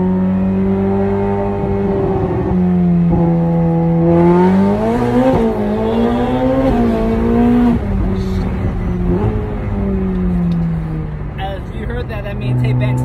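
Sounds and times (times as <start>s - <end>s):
car engine accelerating and shifting: 0.0s - 13.0s.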